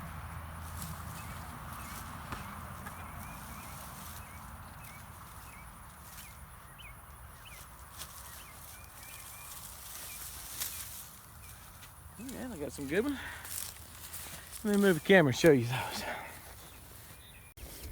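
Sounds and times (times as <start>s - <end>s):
small birds chirping: 0.0s - 17.9s
digging in soil: 0.5s - 17.9s.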